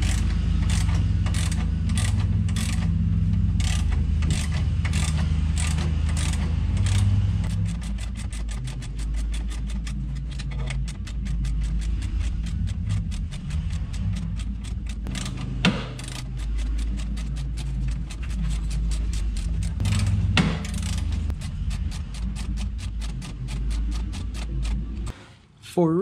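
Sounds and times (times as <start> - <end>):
ratchet wrench clicking: 0.0 - 25.1
steady low hum: 0.0 - 26.0.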